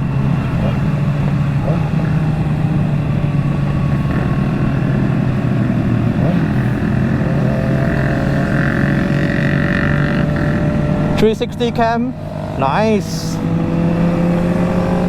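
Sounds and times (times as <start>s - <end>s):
motorcycle engine cruising: 0.0s - 15.0s
road and wind rush: 0.0s - 15.0s
second motorcycle approaching: 0.0s - 15.0s.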